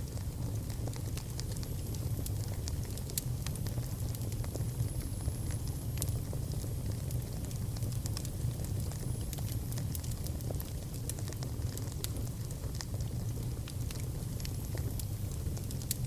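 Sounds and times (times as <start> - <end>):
fire crackling and popping: 0.0 - 16.0
fire roaring: 0.0 - 16.0.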